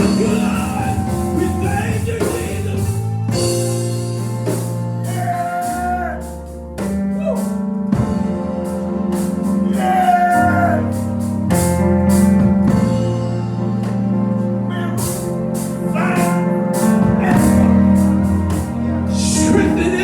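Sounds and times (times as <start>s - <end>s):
drum and cymbal hits: 0.0s - 14.0s, 15.0s - 20.0s
organ chords: 0.0s - 20.0s.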